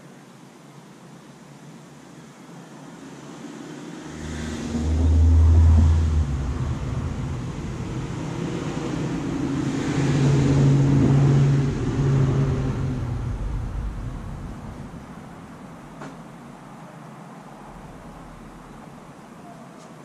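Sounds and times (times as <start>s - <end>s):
vehicle engine humming: 2.8s - 19.4s.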